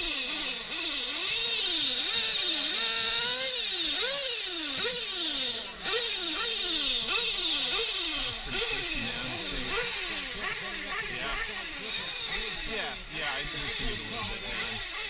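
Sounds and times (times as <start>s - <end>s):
constant high whine: 0.0s - 15.0s
rc truck engines revving: 0.0s - 15.0s.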